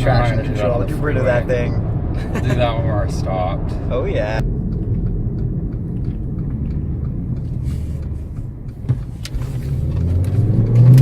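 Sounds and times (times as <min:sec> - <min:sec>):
car engine cabin rumble: 0:00.0 - 0:11.0.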